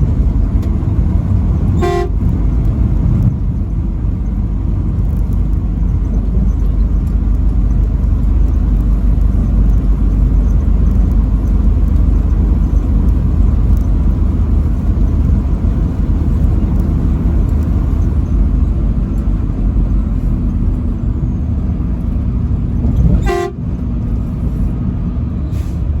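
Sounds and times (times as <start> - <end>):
vehicle rumble with road noise: 0.0 - 26.0.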